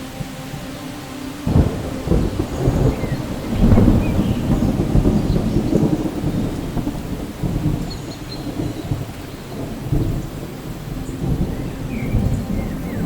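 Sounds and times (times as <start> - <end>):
steady rain: 0.0 - 13.0
thunder rumbling: 0.0 - 13.0
thunder clap: 1.4 - 13.0.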